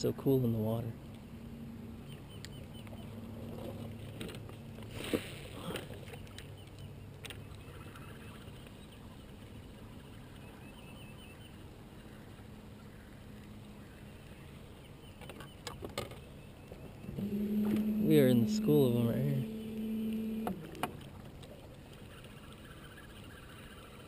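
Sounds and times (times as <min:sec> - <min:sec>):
boat on calm water: 0:00.0 - 0:24.0
low steady hum: 0:00.0 - 0:24.0.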